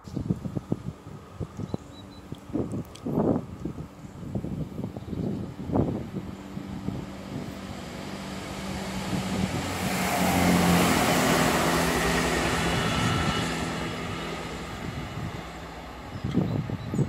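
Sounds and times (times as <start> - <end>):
train engine hum: 0.0 - 17.0
wheels rushing on rails: 0.0 - 17.0.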